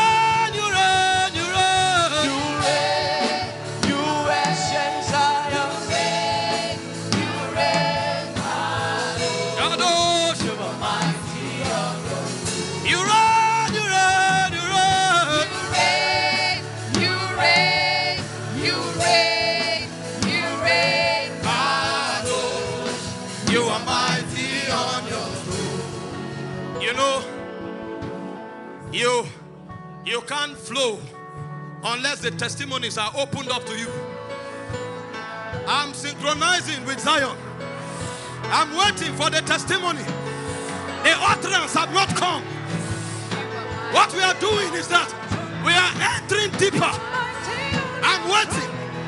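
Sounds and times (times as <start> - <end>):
gospel singing: 0.0 - 27.8, 35.0 - 49.0
keyboard and band accompaniment: 0.0 - 49.0.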